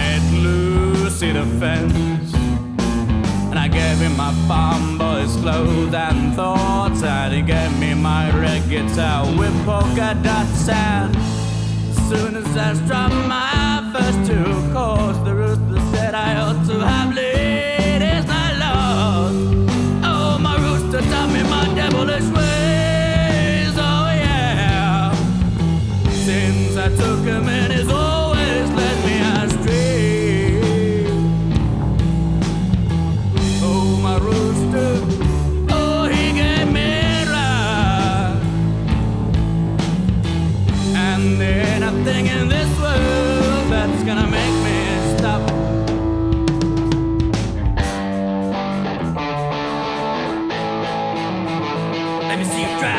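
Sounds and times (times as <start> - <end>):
bass and drums: 0.0 - 52.9
wavering lead electric guitar: 0.0 - 52.9.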